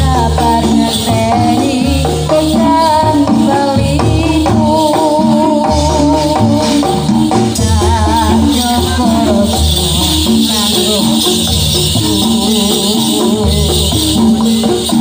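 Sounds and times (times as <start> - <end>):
continuous jingling rattle: 0.0 - 15.0
gamelan music: 0.0 - 15.0.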